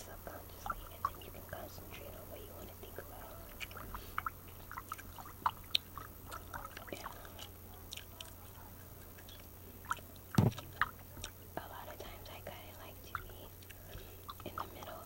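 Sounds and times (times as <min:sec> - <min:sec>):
faint low hum: 0:00.0 - 0:15.0
mouth chewing gum: 0:00.0 - 0:15.0.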